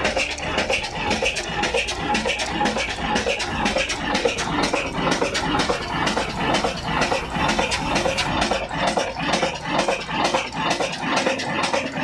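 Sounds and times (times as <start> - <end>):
vintage engine running: 0.0 - 12.0.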